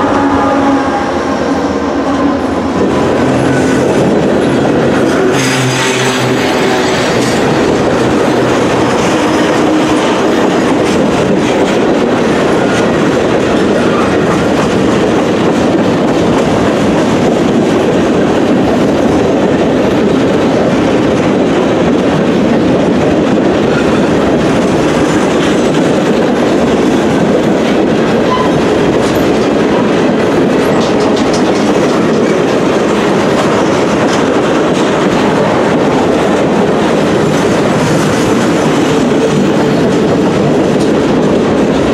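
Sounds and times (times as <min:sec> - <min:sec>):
train wheels rattling on rails: 0:00.0 - 0:41.9
wheels clacking over rail joints: 0:01.9 - 0:41.9.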